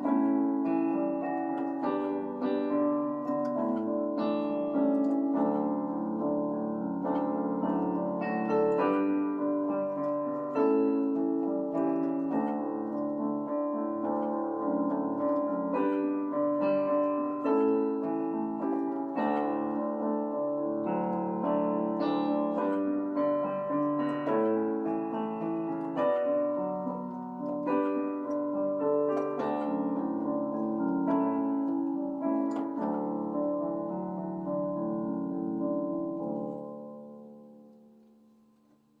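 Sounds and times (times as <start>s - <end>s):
slow piano piece: 0.0s - 39.0s.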